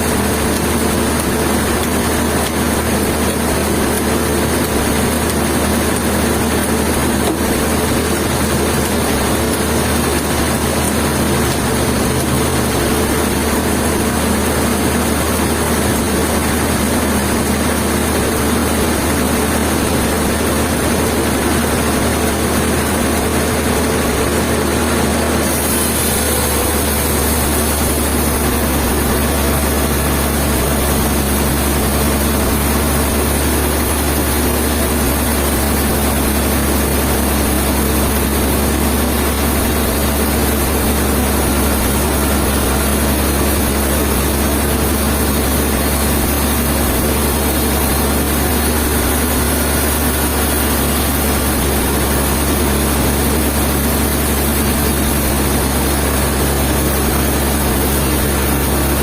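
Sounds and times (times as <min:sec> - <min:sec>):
heavy engine running: 0:00.0 - 0:59.0.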